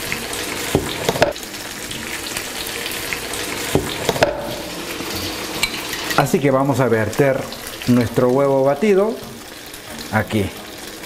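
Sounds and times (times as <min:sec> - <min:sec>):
slices frying in butter: 0:00.0 - 0:11.0.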